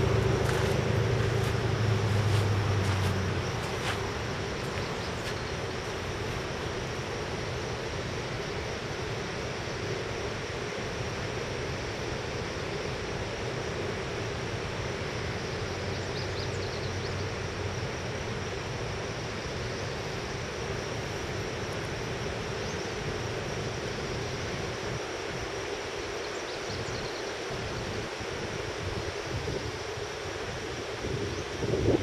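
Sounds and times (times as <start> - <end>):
steady roar with low hum: 0.0 - 32.0.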